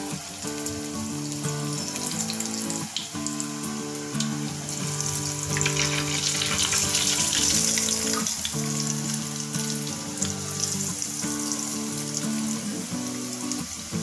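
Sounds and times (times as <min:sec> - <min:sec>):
hot oil sizzling: 0:00.0 - 0:14.0
soft background music: 0:00.0 - 0:14.0.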